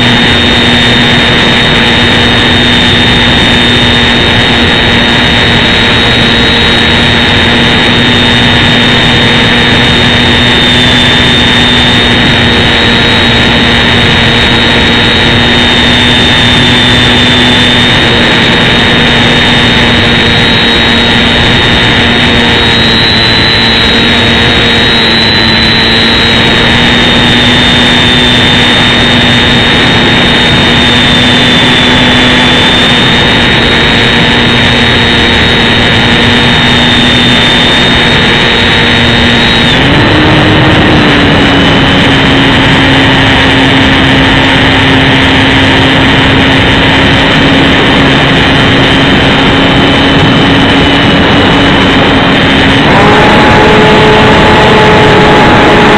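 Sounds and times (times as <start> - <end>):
electric motor whine: 0.0 - 55.9
propeller rushing noise: 0.0 - 55.9.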